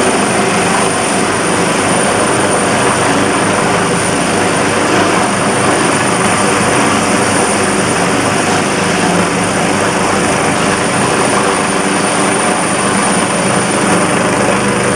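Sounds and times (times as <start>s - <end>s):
helicopter rotor beat: 0.0s - 14.9s.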